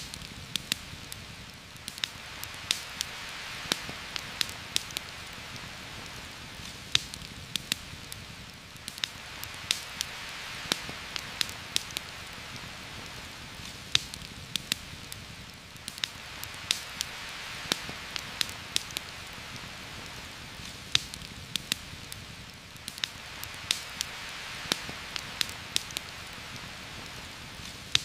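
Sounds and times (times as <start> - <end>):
campfire crackling: 0.0 - 28.0
heavy rain hiss: 0.0 - 28.0.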